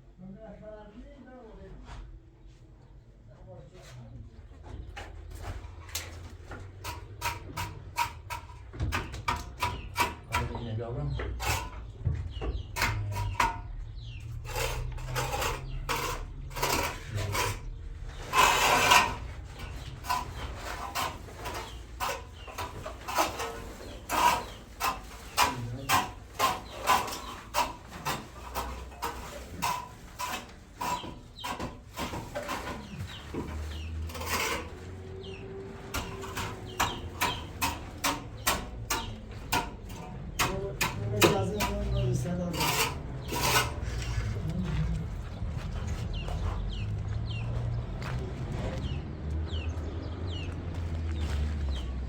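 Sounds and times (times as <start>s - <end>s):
scraping and knocking strokes: 5.0s - 49.0s.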